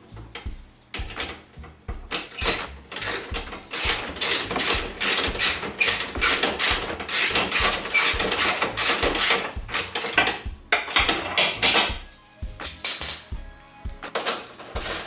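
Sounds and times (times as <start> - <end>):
background music with beat: 0.0 - 15.0
ratchet wrench ratcheting: 0.2 - 13.4, 14.0 - 15.0.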